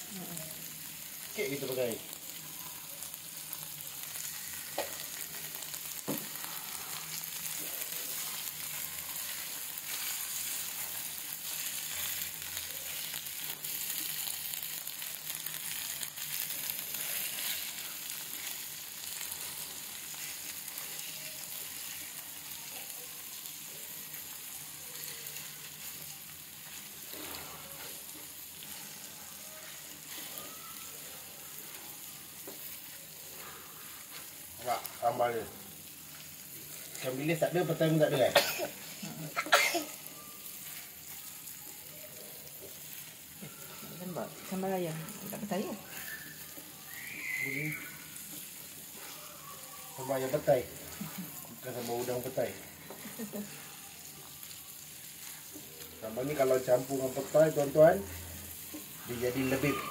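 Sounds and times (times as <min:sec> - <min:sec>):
paste sizzling in a frying pan: 0:00.0 - 0:59.9.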